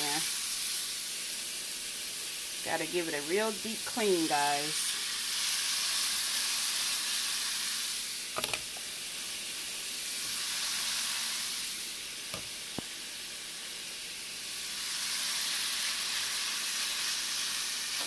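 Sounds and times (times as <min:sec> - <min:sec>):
steak sizzling in oil: 0:00.0 - 0:18.0.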